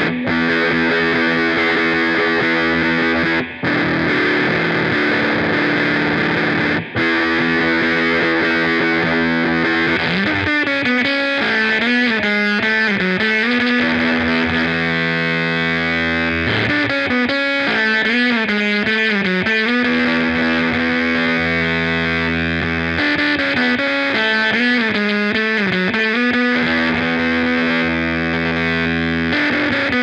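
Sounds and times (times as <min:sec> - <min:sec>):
fuzzy electric guitar chords: 0:00.0 - 0:30.0
wavering electric guitar lead: 0:00.0 - 0:30.0.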